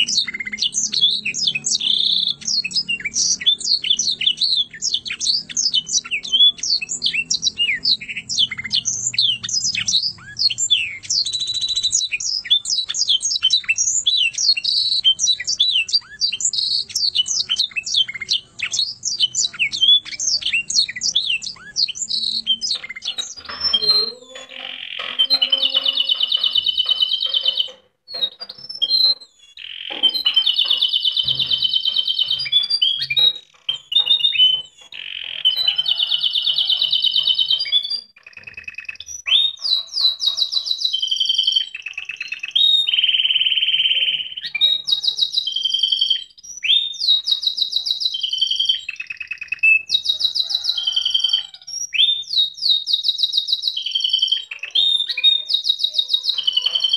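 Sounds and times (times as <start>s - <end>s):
canary rolling trills: 0.0s - 56.9s.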